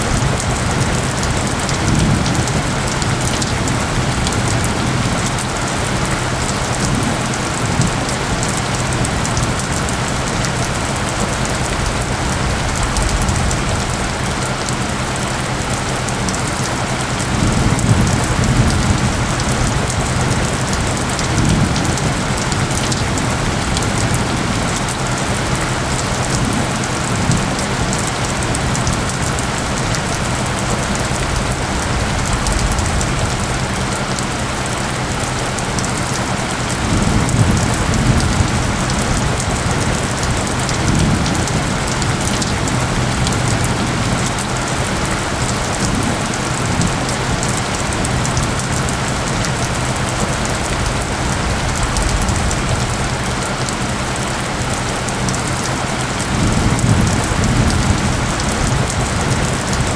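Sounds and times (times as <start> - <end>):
distant thunder rumbles: 0.0 - 59.9
heavy rain hiss: 0.0 - 59.9.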